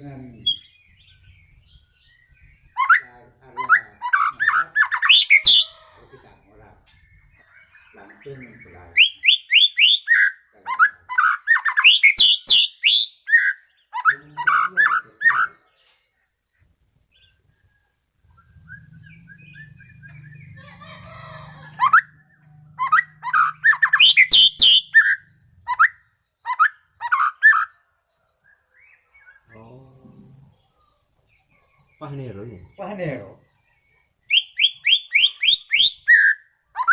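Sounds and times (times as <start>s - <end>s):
bird singing whistles and chatter: 0.1s - 16.0s, 17.1s - 27.8s, 31.6s - 36.9s.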